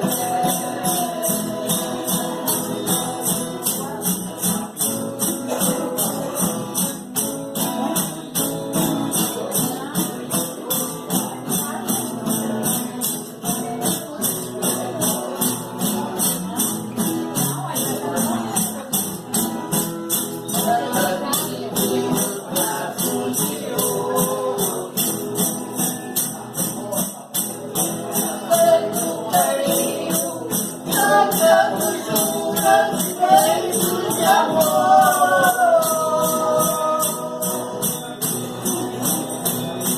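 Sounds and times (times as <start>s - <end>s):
voices singing: 0.0s - 16.4s, 17.7s - 39.9s
tambourine beat: 0.0s - 39.9s.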